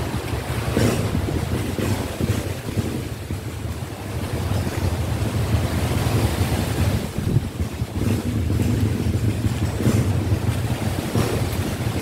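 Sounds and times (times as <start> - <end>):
sea waves washing: 0.0 - 12.0
wind buffeting microphone: 0.0 - 12.0.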